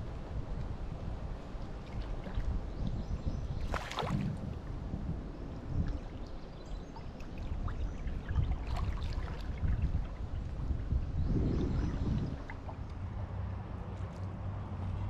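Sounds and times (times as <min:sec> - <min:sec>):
water splashing around kayak: 0:00.1 - 0:13.3.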